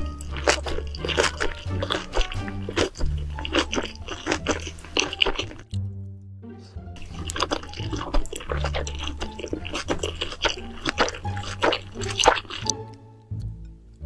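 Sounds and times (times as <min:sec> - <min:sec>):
wet chewing and smacking: 0:00.0 - 0:05.8, 0:07.0 - 0:13.5
background music with bass: 0:00.0 - 0:14.0.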